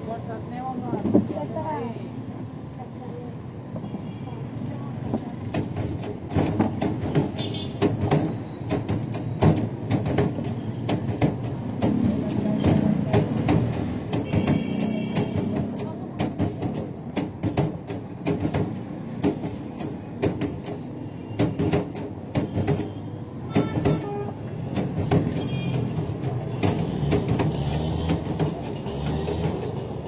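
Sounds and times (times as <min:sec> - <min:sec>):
french fry cutter clacking: 0:05.5 - 0:30.0.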